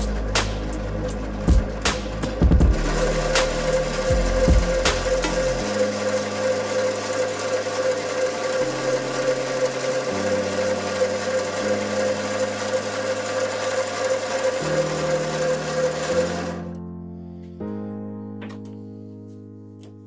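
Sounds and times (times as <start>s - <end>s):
metal lathe motor whine: 0.0s - 16.8s
background music: 0.0s - 20.0s.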